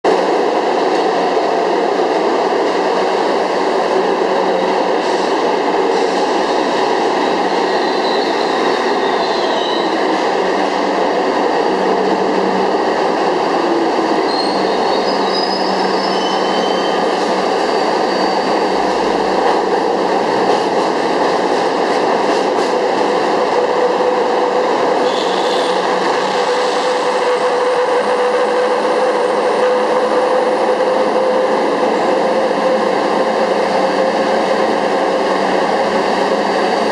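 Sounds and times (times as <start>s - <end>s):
train wheels rumbling on rails: 0.1s - 36.9s.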